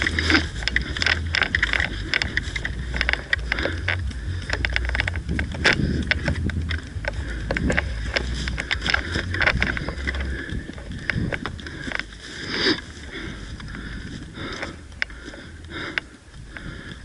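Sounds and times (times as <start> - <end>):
footsteps through brush: 0.0 - 16.8
wind rumble on microphone: 0.0 - 17.0.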